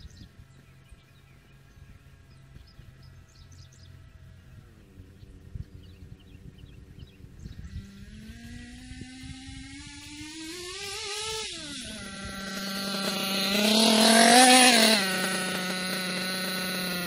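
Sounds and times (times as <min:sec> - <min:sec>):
nitro engine revving: 0:00.0 - 0:17.0.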